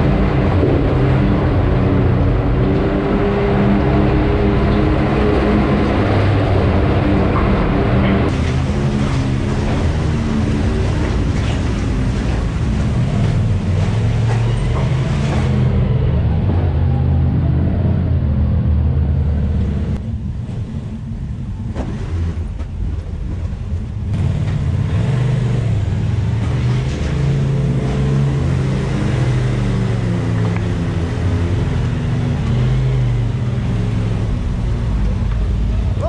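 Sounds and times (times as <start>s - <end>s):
utility vehicle engine revving: 0.0s - 21.0s, 24.1s - 36.0s.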